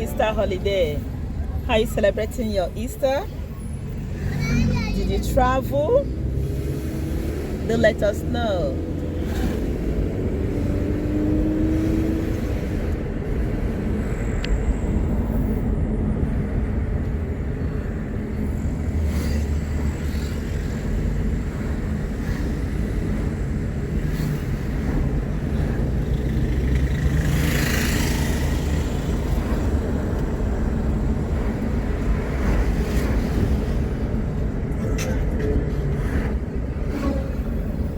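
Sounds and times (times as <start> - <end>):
vehicle driving on road: 0.0 - 37.9.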